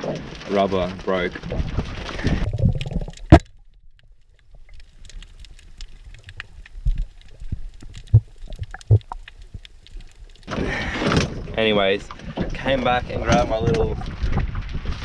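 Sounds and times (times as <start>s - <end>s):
faint underwater clicks and crackle: 0.0s - 15.0s.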